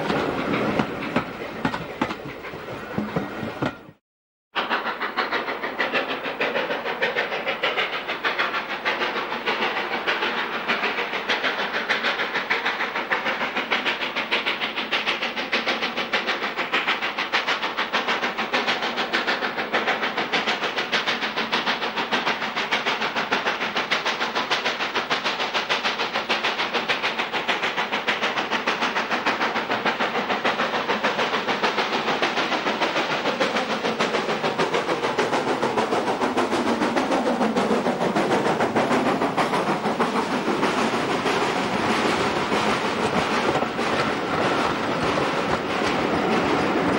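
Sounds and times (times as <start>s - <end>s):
steam locomotive exhaust beats: 0.0s - 4.0s, 4.6s - 46.9s
continuous steam hiss: 4.6s - 46.9s.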